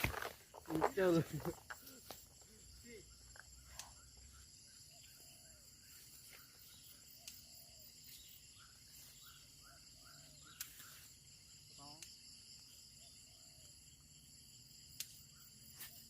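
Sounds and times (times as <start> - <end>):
insects chirring: 0.0 - 16.0
faint bird chirps: 1.8 - 16.0.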